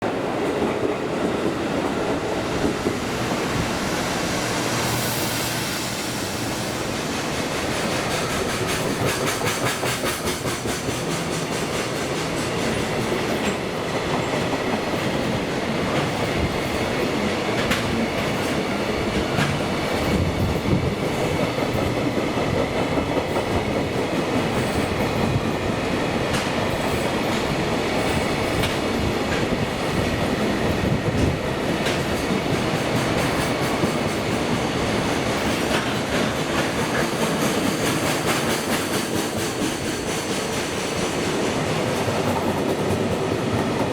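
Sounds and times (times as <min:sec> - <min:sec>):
train rolling rumble: 0:00.0 - 0:43.9
wheels clacking over rail joints: 0:07.2 - 0:43.9.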